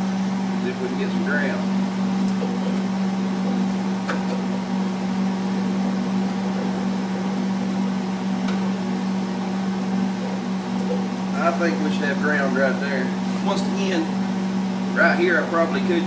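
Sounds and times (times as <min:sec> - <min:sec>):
welder humming with fan: 0:00.0 - 0:16.0.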